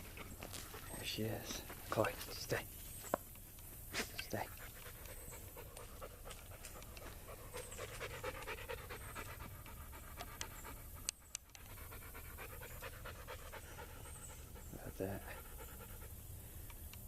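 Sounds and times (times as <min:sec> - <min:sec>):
dog panting: 0:00.0 - 0:02.6, 0:04.4 - 0:16.3.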